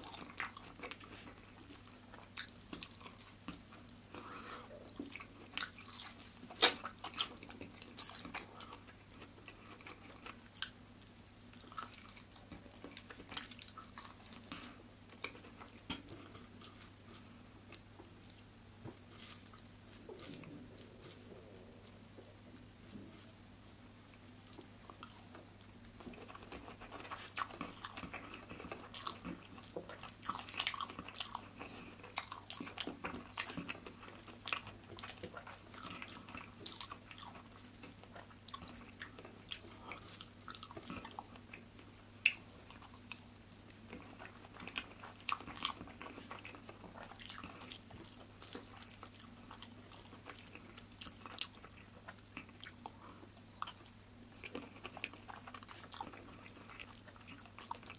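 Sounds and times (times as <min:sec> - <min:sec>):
faint low hum: 0:00.0 - 0:57.9
wet chewing and lip-smacking: 0:00.0 - 0:57.9.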